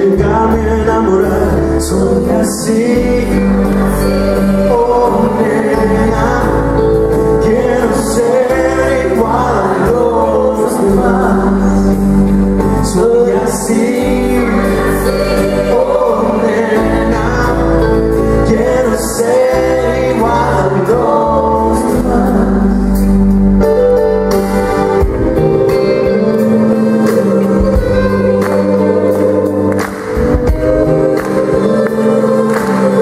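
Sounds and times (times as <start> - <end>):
pop ballad with choir and piano: 0.0 - 33.0.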